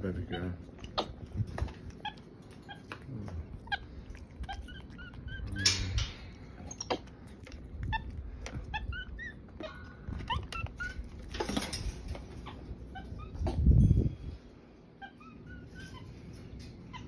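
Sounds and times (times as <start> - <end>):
monkeys chirping and squeaking: 0.2 - 14.1, 15.0 - 17.0.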